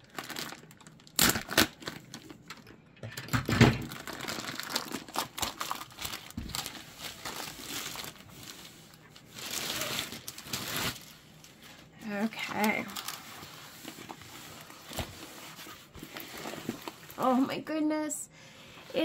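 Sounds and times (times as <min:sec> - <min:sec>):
plastic crinkling and rustling: 0:00.0 - 0:17.6.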